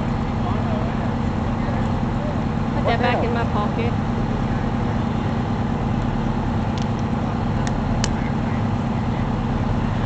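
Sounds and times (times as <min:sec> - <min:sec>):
fire truck engine drone: 0:00.0 - 0:10.0.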